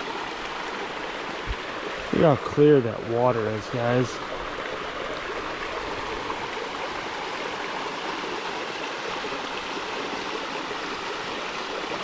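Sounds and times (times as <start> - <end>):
water rushing over rock: 0.0 - 12.0.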